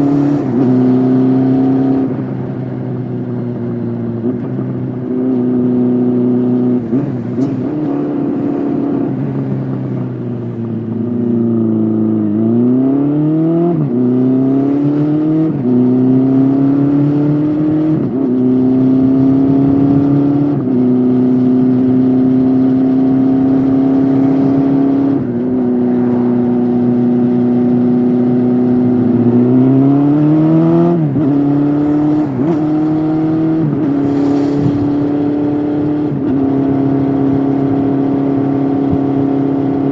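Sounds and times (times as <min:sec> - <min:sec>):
motorcycle engine revving: 0:00.0 - 0:03.1, 0:03.9 - 0:39.9.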